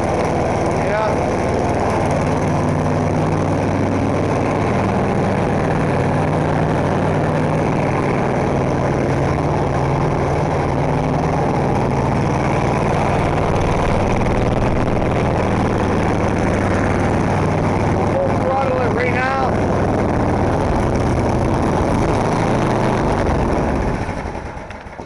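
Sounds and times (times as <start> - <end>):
snowblower engine running: 0.0 - 25.0.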